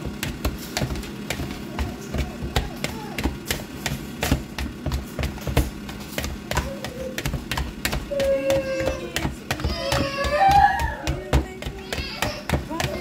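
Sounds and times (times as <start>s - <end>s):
kitchen knocking and tapping: 0.0s - 13.0s.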